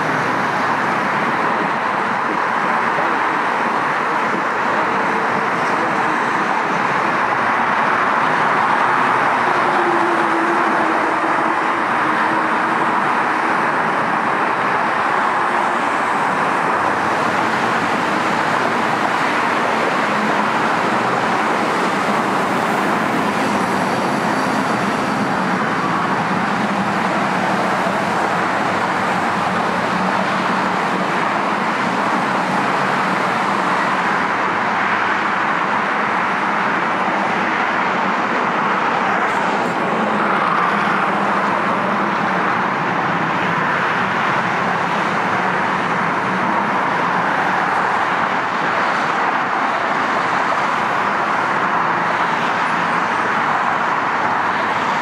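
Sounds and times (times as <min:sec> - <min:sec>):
freeway traffic noise: 0:00.0 - 0:55.0.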